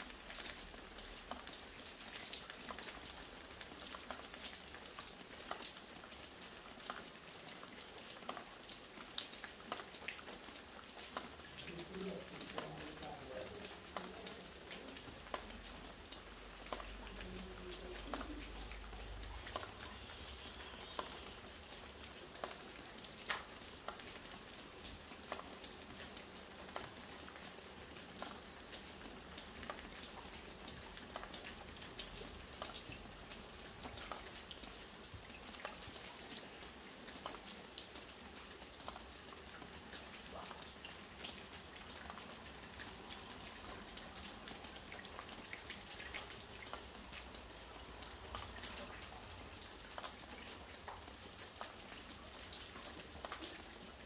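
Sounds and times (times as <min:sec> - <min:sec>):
drops dripping from a roof: 0:00.0 - 0:54.0
light rain hissing: 0:00.0 - 0:54.0.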